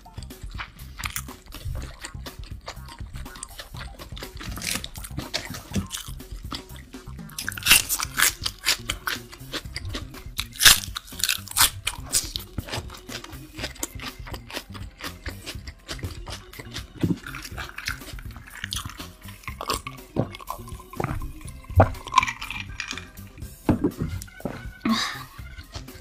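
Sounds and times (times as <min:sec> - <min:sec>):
crunchy chewing of burger: 0:00.0 - 0:26.0.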